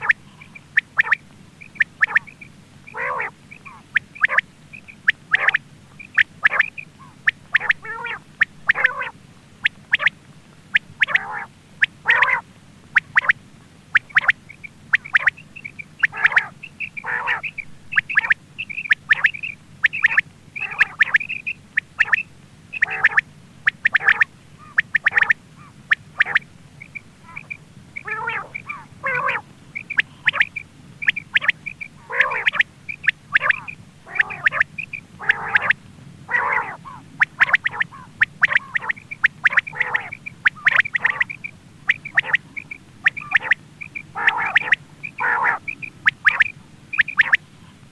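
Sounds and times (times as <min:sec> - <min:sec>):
quail calling: 0:00.0 - 0:47.9
steady low hum: 0:00.0 - 0:47.9.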